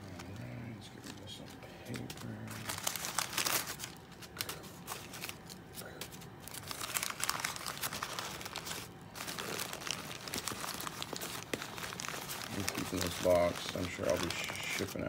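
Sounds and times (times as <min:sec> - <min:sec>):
newspaper crinkling and rustling: 0:00.0 - 0:15.0.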